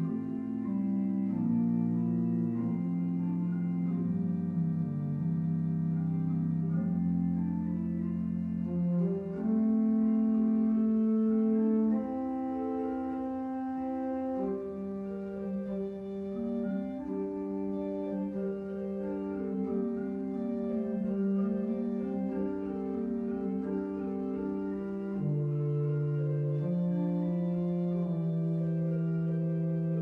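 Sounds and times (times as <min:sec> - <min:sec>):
pipe organ sustained chords: 0:00.0 - 0:30.0.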